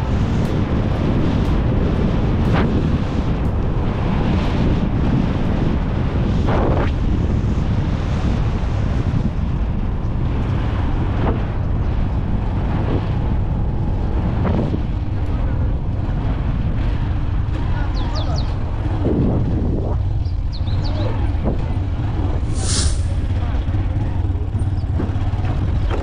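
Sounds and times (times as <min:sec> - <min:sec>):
motorcycle running: 0:00.0 - 0:26.0
wind rushing over microphone: 0:00.0 - 0:26.0.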